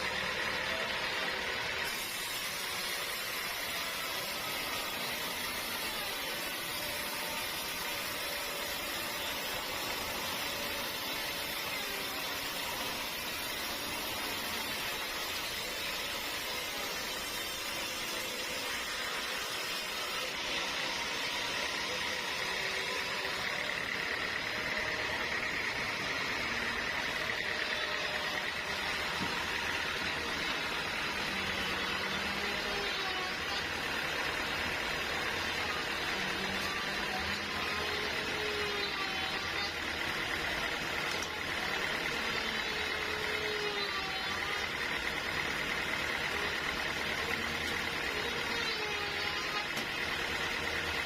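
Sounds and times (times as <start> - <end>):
sawmill machinery running: 0.0 - 51.0.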